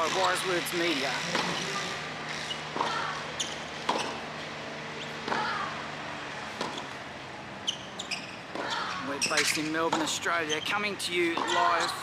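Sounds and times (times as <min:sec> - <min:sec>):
tennis balls struck by rackets: 0:00.0 - 0:12.0.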